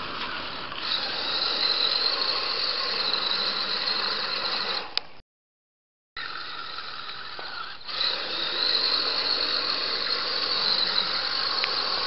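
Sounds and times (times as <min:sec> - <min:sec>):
rc truck motor whining: 0:00.0 - 0:05.0, 0:06.2 - 0:12.0.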